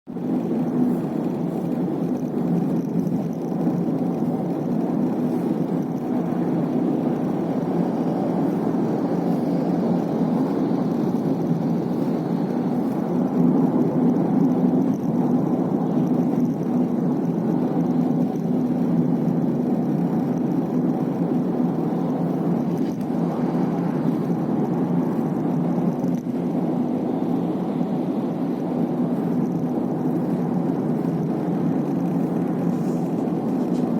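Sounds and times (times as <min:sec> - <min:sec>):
car road and engine hum: 0:00.1 - 0:33.9.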